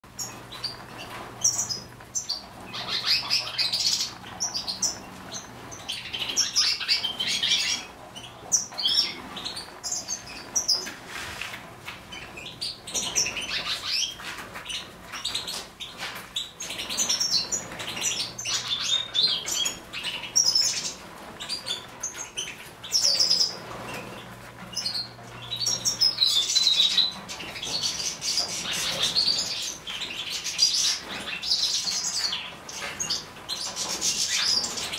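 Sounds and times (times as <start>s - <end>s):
finches chirping and twittering: 0.1s - 11.0s, 11.8s - 34.9s.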